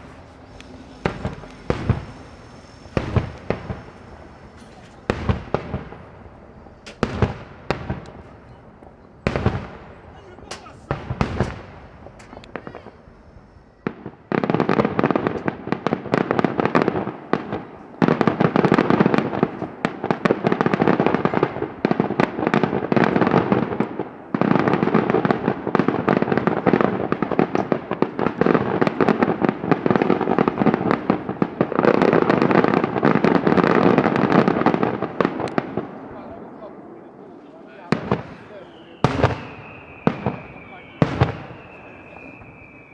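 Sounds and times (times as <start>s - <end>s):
rapid firecracker bangs: 0.0s - 36.5s, 37.8s - 42.9s.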